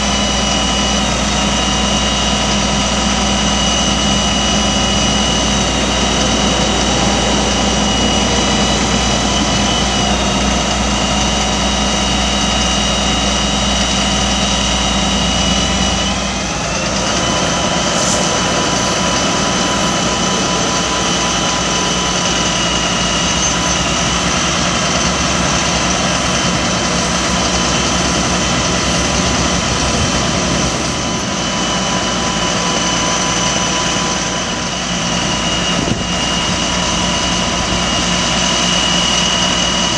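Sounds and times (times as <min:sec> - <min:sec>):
diesel engine running: 0:00.0 - 0:39.9
high whine: 0:00.0 - 0:39.9.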